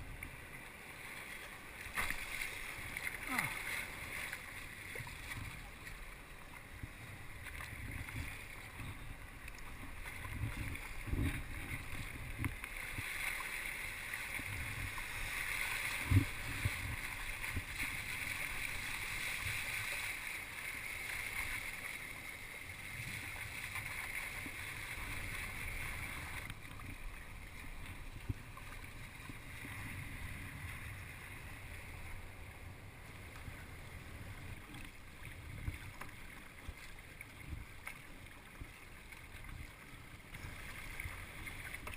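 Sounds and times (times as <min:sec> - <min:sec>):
water rushing and splashing: 0:00.0 - 0:41.9.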